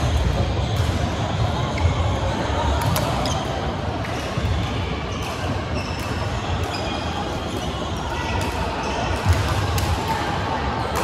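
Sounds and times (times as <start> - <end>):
echoing sports hall din: 0.0 - 11.0.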